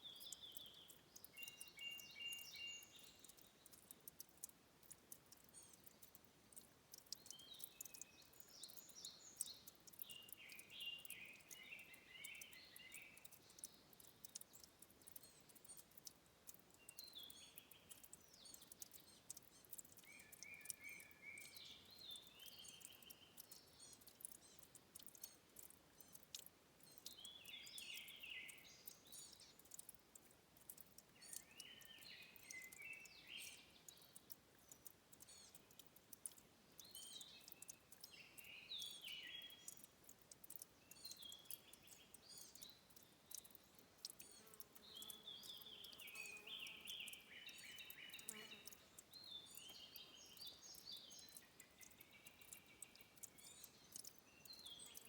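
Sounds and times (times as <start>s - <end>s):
songbird singing short phrases: 0.0s - 3.8s, 7.2s - 15.8s, 16.8s - 29.9s, 31.1s - 35.8s, 36.8s - 55.0s
faint high ticks: 0.0s - 55.0s.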